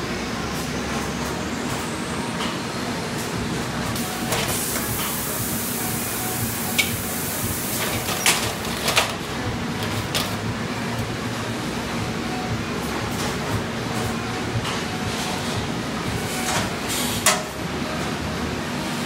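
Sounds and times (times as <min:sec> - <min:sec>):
factory machinery humming: 0:00.0 - 0:19.0.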